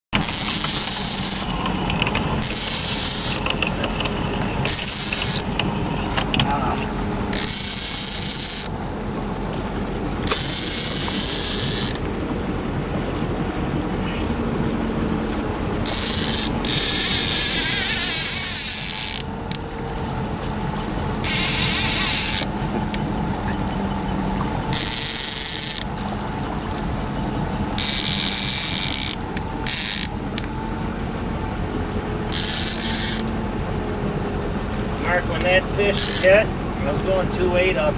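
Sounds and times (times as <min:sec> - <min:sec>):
boat motor running: 0:00.1 - 0:37.9
high buzzing hiss: 0:02.3 - 0:09.0, 0:09.7 - 0:12.7, 0:13.4 - 0:19.8, 0:21.2 - 0:22.8, 0:24.7 - 0:37.9.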